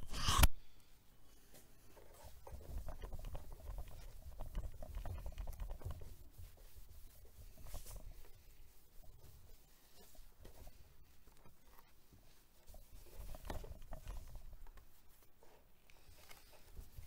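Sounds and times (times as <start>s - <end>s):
hand sanding plastic: 1.8s - 17.0s.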